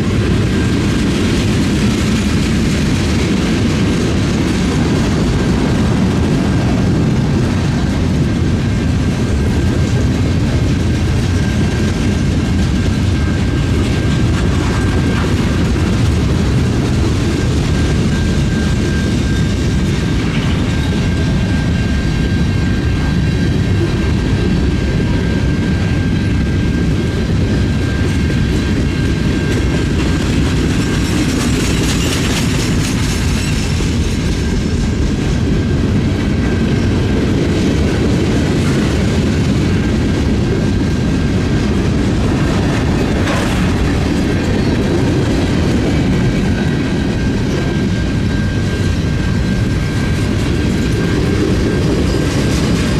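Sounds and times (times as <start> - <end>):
freight train rumbling past: 0.0 - 52.9
wheels clattering on rails: 0.0 - 52.9.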